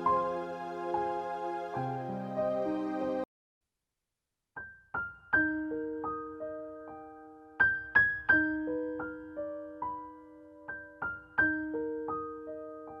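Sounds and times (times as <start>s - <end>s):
slow solo piano: 0.0s - 3.3s, 4.6s - 13.0s.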